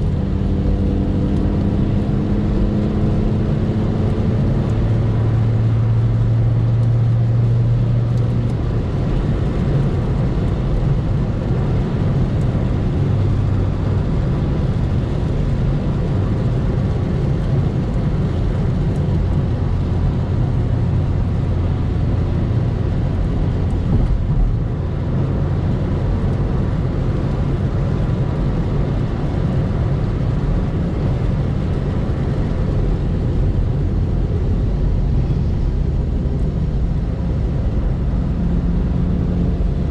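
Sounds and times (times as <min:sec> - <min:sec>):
car engine drone: 0:00.0 - 0:39.9
road noise: 0:00.0 - 0:39.9.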